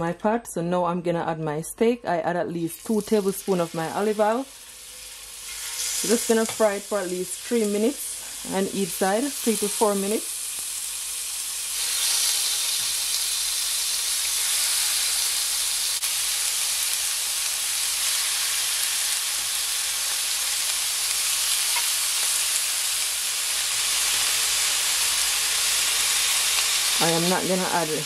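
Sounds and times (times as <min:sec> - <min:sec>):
steak sizzling in oil: 0:02.7 - 0:28.0.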